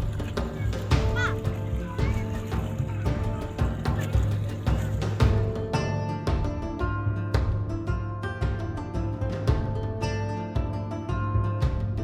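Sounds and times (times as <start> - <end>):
instrumental music with bass: 0.0 - 12.0.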